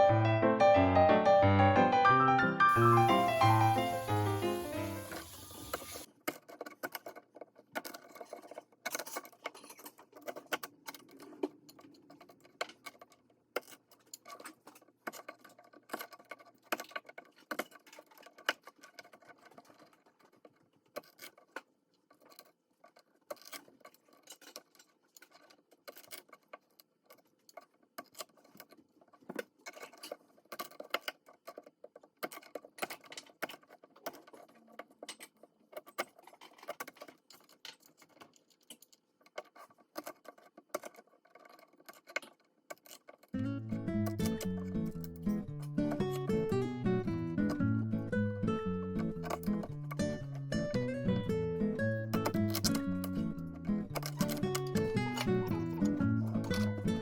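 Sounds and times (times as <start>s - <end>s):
kitchen prep clicks and scrapes: 2.8s - 48.2s, 48.9s - 50.7s, 52.0s - 57.0s.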